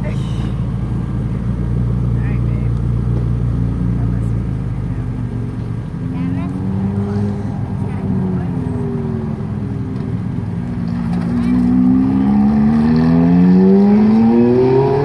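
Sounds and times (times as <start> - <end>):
sports car engine accelerating: 0.0 - 15.0.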